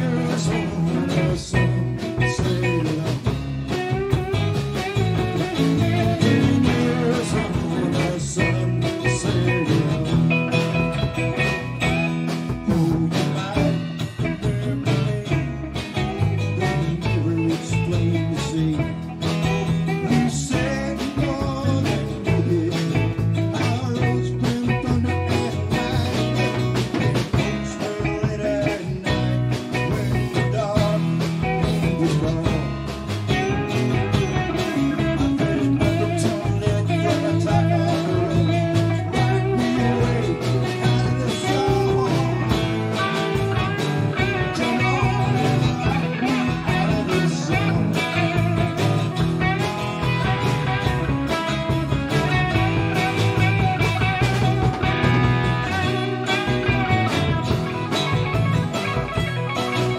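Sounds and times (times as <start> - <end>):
drum kit beat: 0.0 - 59.9
electric bass: 0.0 - 59.9
electric guitars: 0.0 - 59.9.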